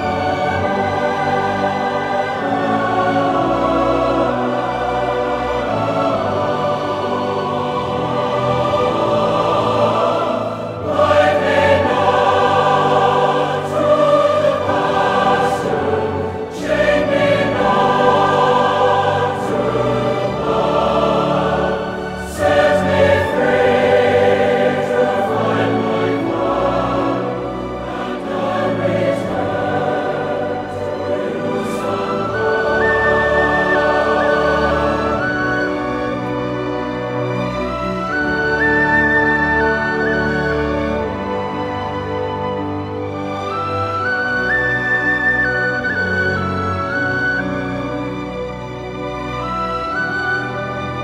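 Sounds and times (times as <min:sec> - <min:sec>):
choir singing: 0:00.0 - 0:51.0.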